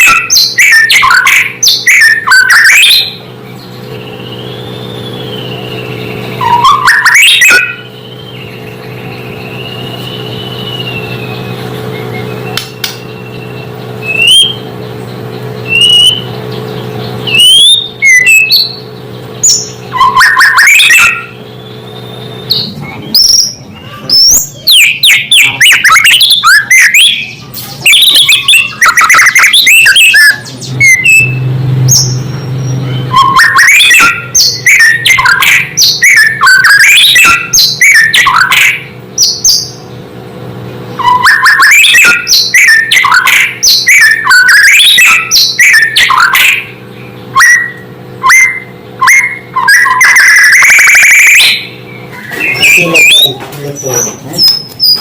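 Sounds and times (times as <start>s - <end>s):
bird singing whistled phrases: 0.0s - 14.7s, 15.6s - 18.8s, 19.4s - 39.9s, 41.0s - 55.0s
steady low hum: 0.0s - 55.0s.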